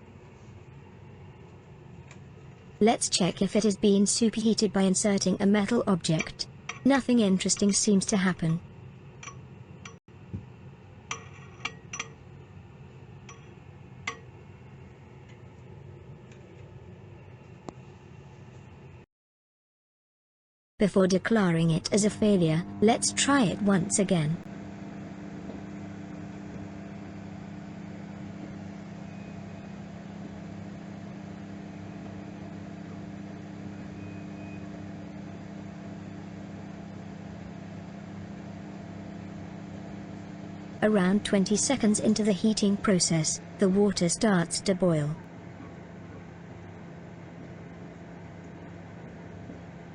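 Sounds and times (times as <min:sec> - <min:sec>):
low steady hum: 0:00.0 - 0:19.0, 0:20.8 - 0:49.9.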